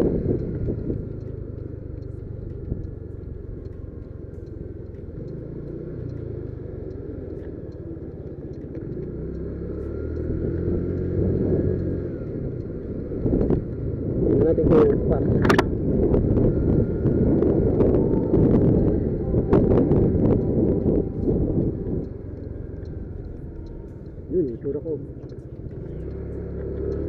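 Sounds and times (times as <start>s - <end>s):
motor scooter engine running: 0.0s - 27.0s
road and wind noise: 0.0s - 27.0s.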